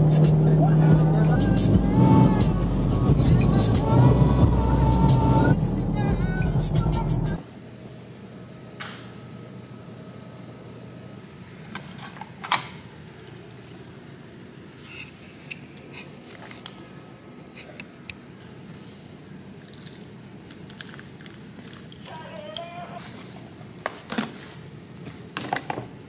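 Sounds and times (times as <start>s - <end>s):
indoor room hum: 0.0s - 26.0s.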